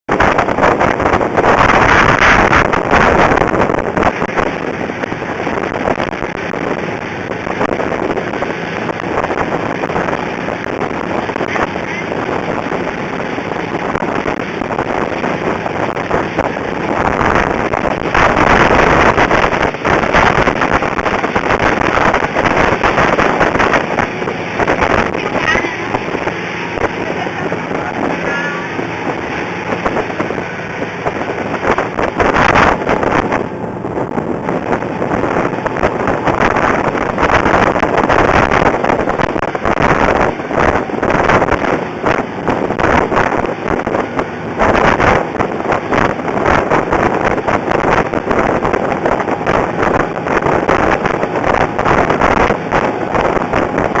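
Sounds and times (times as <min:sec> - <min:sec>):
motorboat engine running: 0:00.0 - 0:54.0
rush of wind and water: 0:00.0 - 0:54.0.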